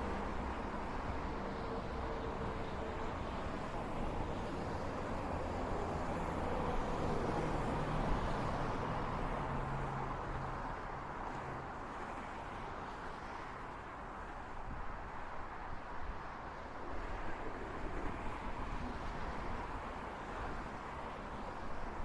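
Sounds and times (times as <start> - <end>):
highway traffic rumble: 0.0 - 22.0.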